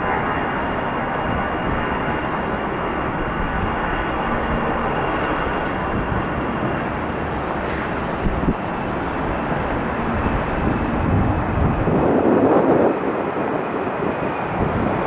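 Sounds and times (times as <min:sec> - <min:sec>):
jet engine rush with whine: 0:00.0 - 0:15.0
wind buffeting microphone: 0:00.0 - 0:15.0.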